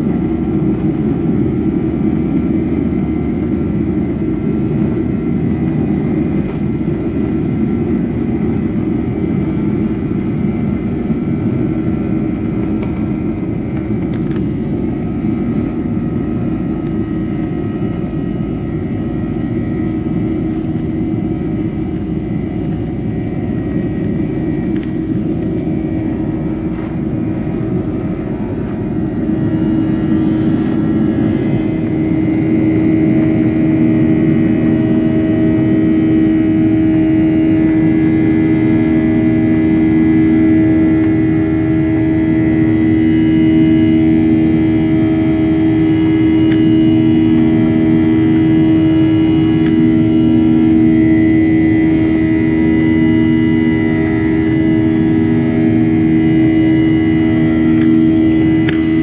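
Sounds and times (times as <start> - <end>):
jet engines droning: 0.0 - 59.0
faint whining tones: 0.3 - 59.0.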